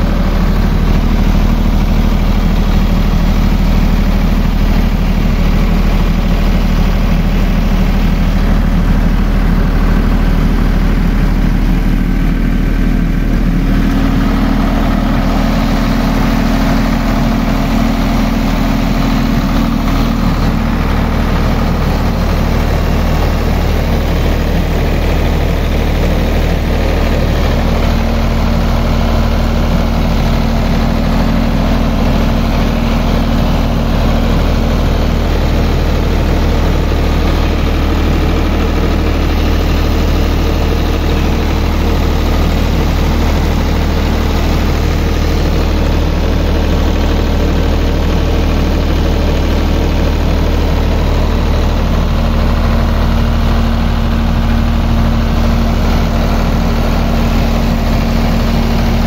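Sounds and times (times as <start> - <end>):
diesel generator engine drone: 0.0 - 59.0.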